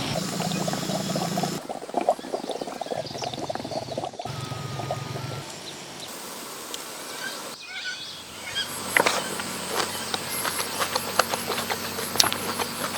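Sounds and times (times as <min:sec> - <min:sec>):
insects chirping: 0:00.0 - 0:12.9.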